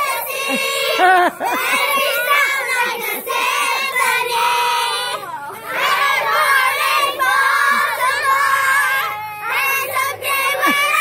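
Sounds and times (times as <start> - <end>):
girls shouting and singing: 0.0 - 11.0.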